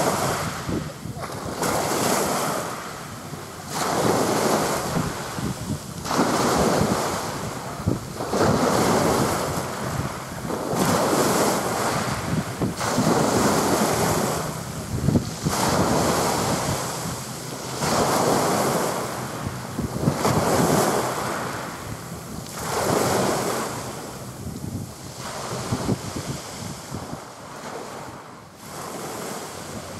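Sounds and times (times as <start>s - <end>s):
small waves washing in: 0.0s - 29.9s
wind rumble on microphone: 0.0s - 29.9s.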